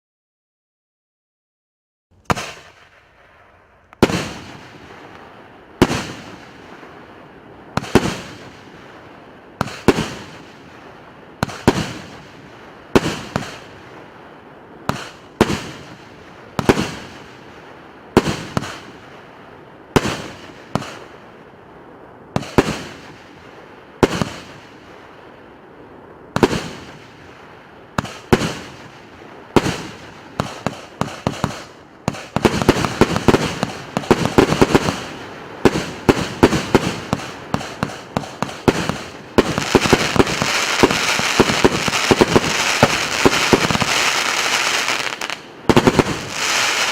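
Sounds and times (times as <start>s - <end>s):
fireworks bangs with crackle: 2.2s - 21.2s, 22.3s - 25.1s, 26.3s - 46.9s.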